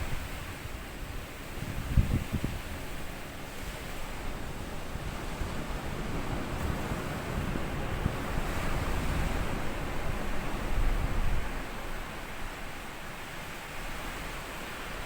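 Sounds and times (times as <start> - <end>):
small waves on sandy beach: 0.0 - 15.0.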